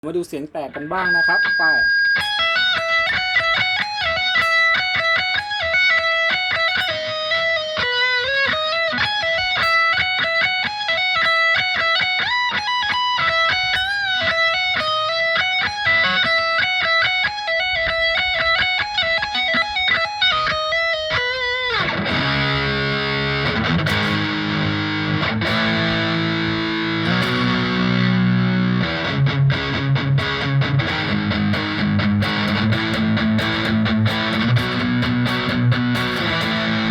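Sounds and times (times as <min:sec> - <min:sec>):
distorted electric guitar lead: 0:00.5 - 0:36.9
electric guitar chords: 0:00.7 - 0:36.9.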